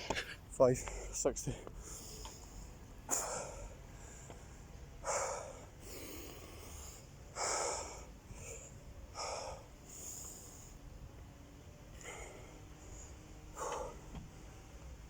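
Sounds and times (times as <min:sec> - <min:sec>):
man breathing hard: 0:00.8 - 0:11.0, 0:11.9 - 0:14.4.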